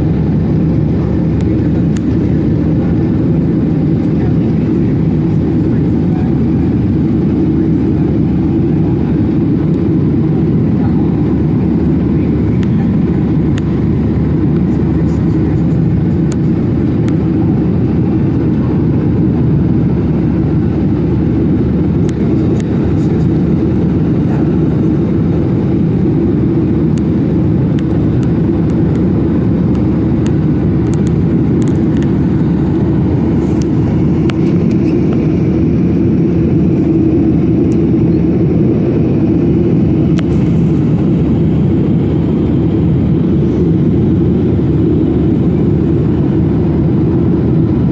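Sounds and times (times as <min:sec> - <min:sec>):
airliner cabin engine roar: 0:00.0 - 0:47.9.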